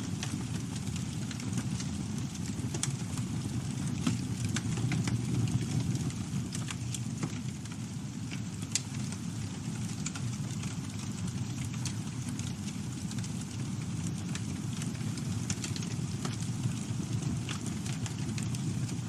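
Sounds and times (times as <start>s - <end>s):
rush of flames: 0.0s - 19.0s
wood crackling and popping: 0.0s - 19.0s.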